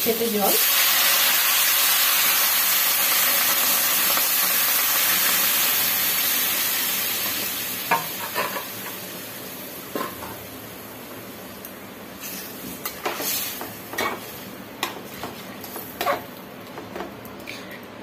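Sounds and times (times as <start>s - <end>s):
oil sizzling in a pot: 0.0s - 16.5s.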